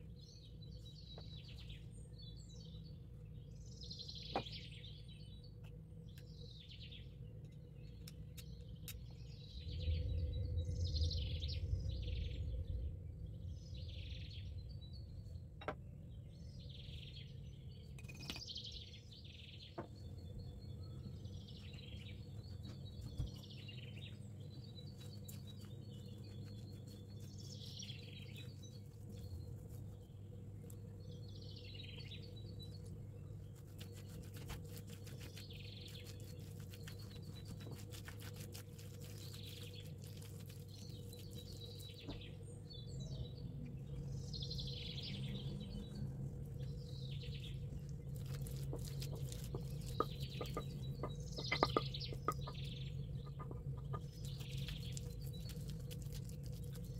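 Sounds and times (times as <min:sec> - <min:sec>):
birds chirping: 0:00.0 - 0:56.9
steady low hum: 0:00.0 - 0:56.9.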